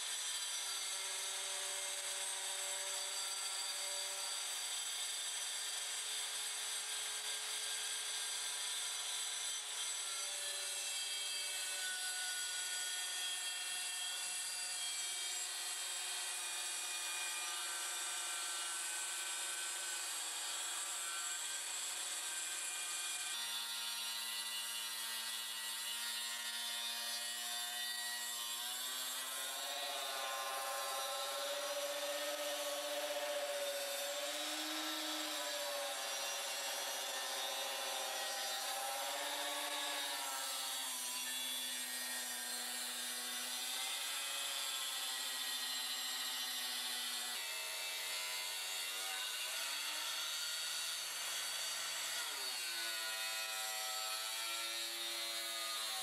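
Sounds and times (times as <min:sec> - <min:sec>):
circular saw cutting stone: 0:00.0 - 0:56.0.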